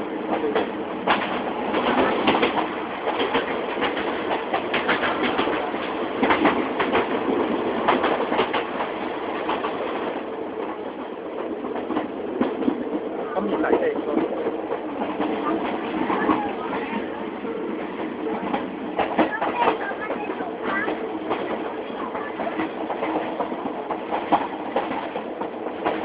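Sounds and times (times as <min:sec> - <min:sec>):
train clacks and rattles: 0:00.0 - 0:26.0
train rumbling: 0:00.0 - 0:26.0.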